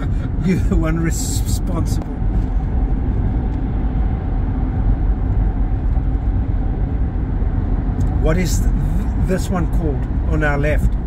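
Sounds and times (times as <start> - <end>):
car road noise from inside: 0.0 - 11.0.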